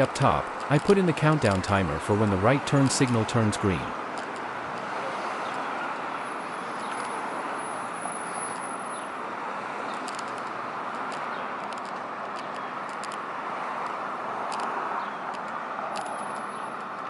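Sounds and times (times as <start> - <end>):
road traffic hiss: 0.0 - 17.0.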